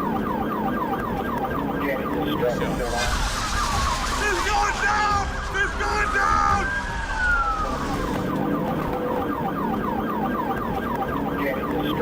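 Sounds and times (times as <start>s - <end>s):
police siren wailing and yelping: 0.0s - 12.0s
road and engine noise: 0.0s - 12.0s.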